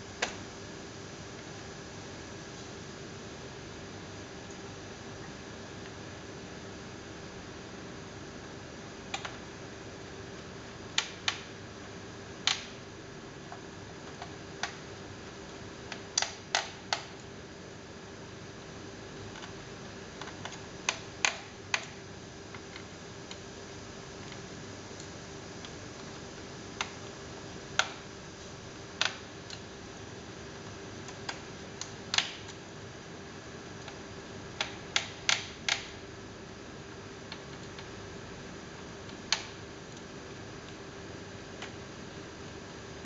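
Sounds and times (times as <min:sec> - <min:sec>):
steady faint hum: 0:00.0 - 0:43.0.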